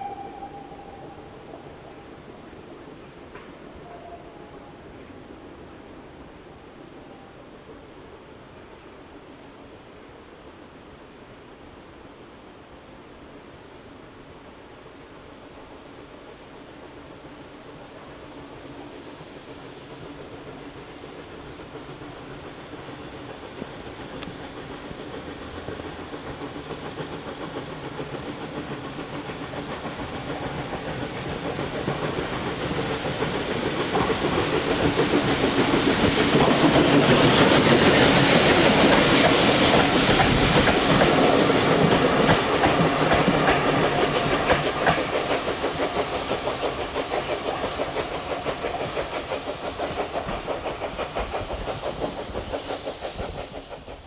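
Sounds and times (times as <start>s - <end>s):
steam train passing: 0.0s - 54.0s.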